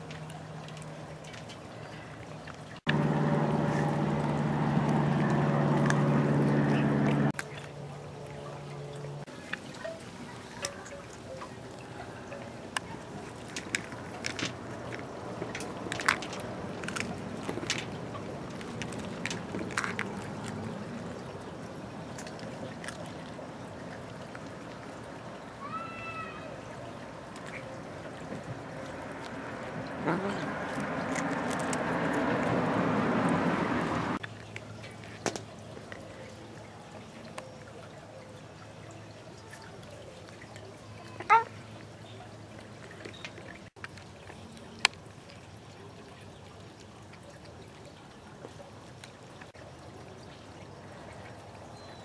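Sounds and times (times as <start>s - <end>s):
fountain splashing and trickling: 0.0s - 52.0s.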